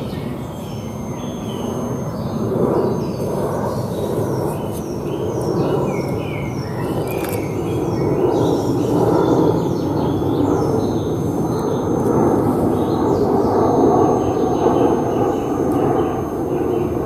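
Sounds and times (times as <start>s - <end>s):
high electronic whine: 0.0s - 17.0s
songbirds singing: 0.0s - 17.0s.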